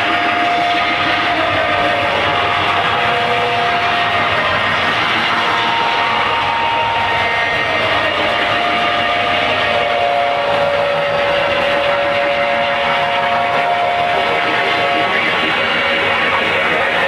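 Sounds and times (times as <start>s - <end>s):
loud distorted live band: 0.0s - 17.0s.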